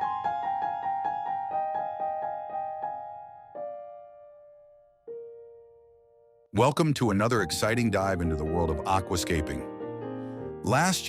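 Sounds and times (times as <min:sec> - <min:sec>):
electric piano music: 0:00.0 - 0:06.5, 0:07.1 - 0:11.0.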